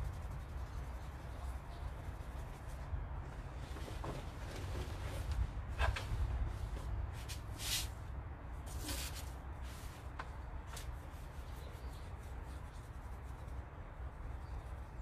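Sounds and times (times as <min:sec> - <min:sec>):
paintbrush rubbing fabric: 0:00.0 - 0:08.0, 0:08.6 - 0:15.0.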